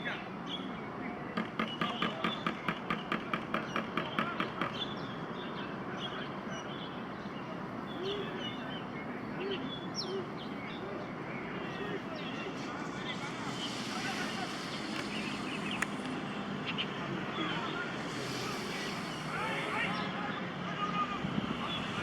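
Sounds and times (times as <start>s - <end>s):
murmur of distant voices: 0.0s - 22.0s.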